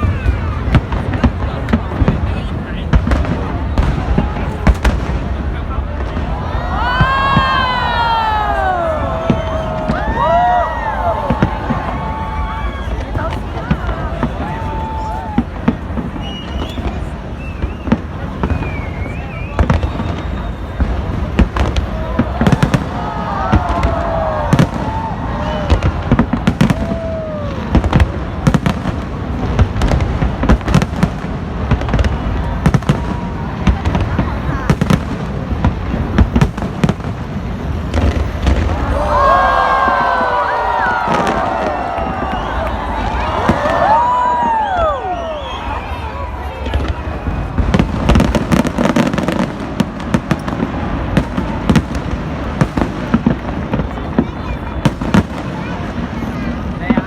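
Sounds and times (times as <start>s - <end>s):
fireworks bangs and crackles: 0.0s - 57.0s
fireworks rumble: 0.0s - 57.0s
whistling fireworks: 0.0s - 57.0s.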